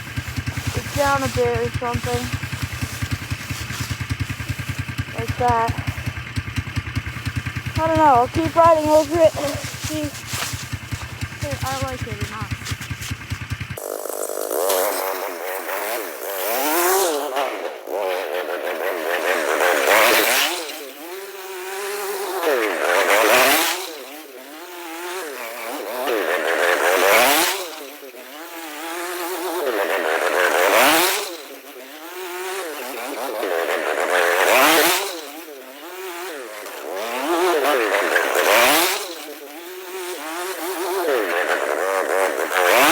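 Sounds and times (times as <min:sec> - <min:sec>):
snowmobile engine revving: 0:00.0 - 0:42.9.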